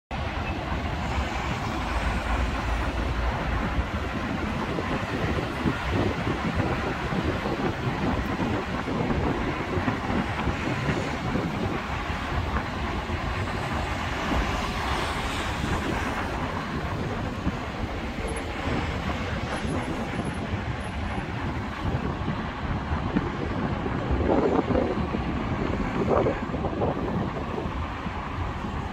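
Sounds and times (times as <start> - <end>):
road traffic driving by: 0.1 - 28.9.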